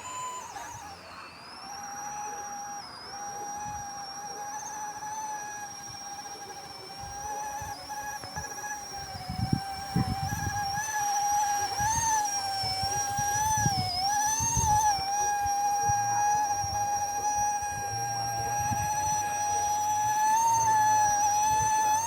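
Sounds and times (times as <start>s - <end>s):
low buffeting noise: 0.0s - 22.0s
rc helicopter motor whine: 0.0s - 22.0s.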